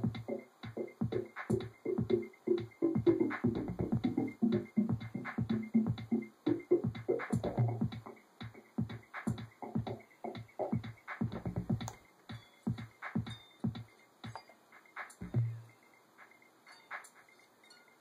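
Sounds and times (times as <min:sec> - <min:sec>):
techno drum machine and synth: 0:00.0 - 0:17.4.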